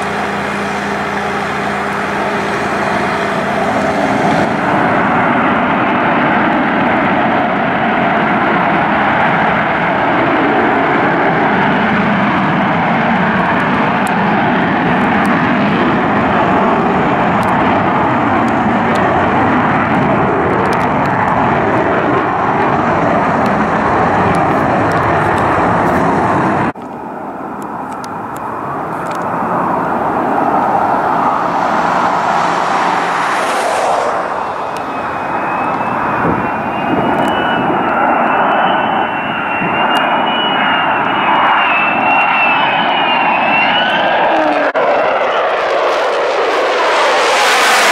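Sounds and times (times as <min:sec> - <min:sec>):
high wavering jet whine: 0:00.0 - 0:47.9
jet engine roar: 0:00.0 - 0:47.9.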